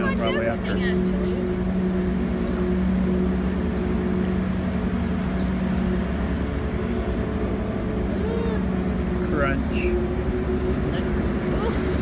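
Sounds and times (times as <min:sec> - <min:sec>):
ferry engine drone: 0:00.0 - 0:12.0.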